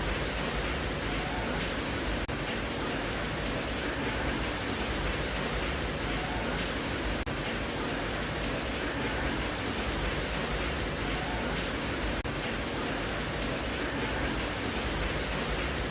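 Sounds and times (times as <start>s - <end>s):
steady rain: 0.0s - 15.9s.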